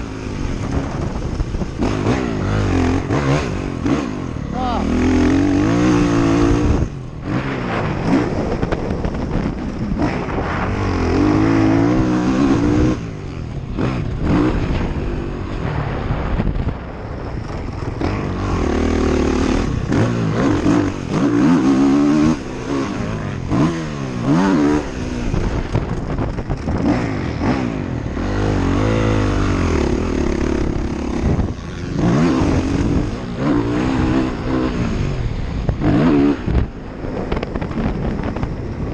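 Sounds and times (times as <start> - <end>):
wind buffeting microphone: 0.0 - 4.4, 5.0 - 38.9
atv engine revving: 0.0 - 15.7, 17.4 - 38.9.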